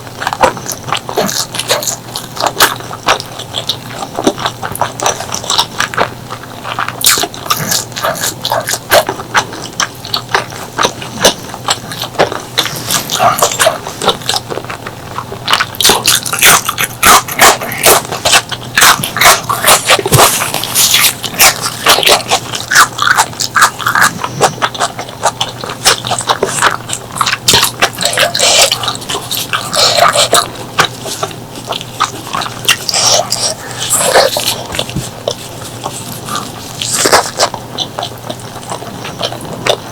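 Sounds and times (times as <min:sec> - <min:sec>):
wet chewing and lip smacking: 0:00.0 - 0:39.9.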